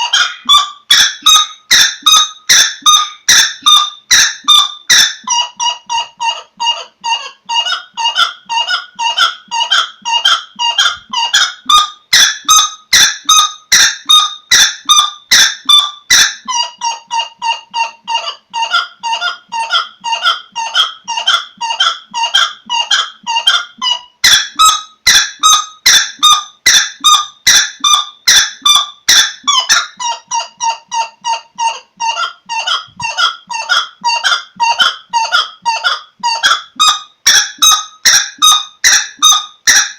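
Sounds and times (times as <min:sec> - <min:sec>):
bird calling sharp notes: 0:00.0 - 0:39.9.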